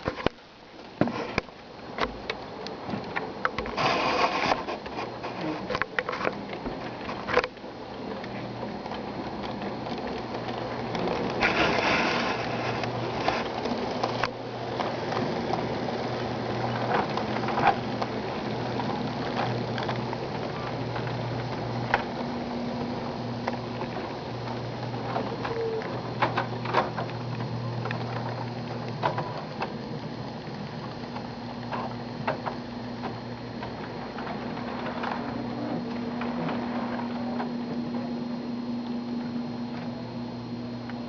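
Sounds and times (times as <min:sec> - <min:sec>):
wheels clicking on rails: 0:00.0 - 0:41.0
small electric motor hum: 0:03.4 - 0:41.0.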